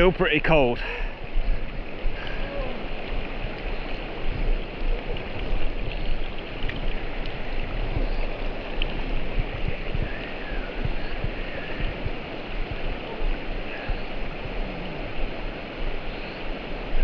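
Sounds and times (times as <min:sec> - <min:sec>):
mountain stream rushing over rocks: 0:00.0 - 0:17.0.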